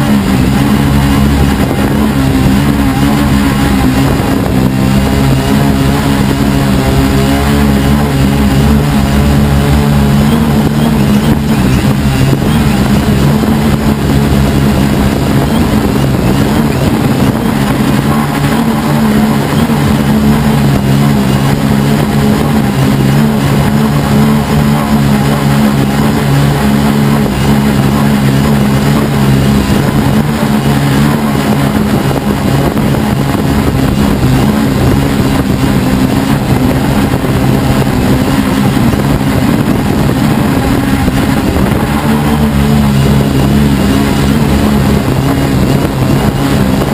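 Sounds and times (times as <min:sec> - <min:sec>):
drone motors buzzing: 0:00.0 - 0:46.9.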